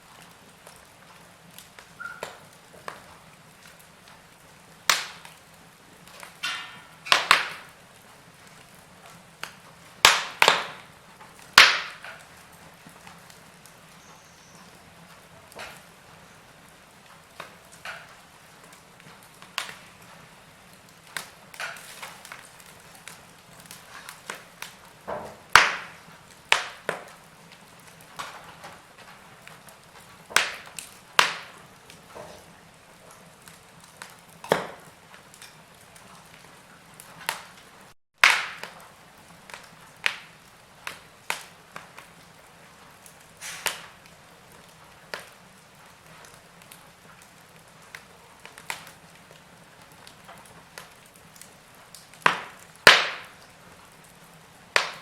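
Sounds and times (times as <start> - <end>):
burning logs popping and snapping: 0.0 - 55.0
wood fire crackling: 0.0 - 55.0.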